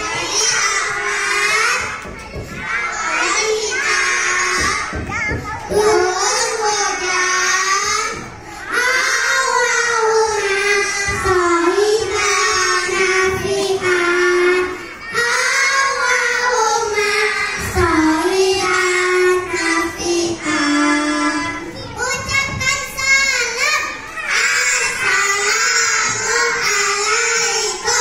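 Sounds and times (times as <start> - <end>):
children singing through microphones: 0.0 - 28.0.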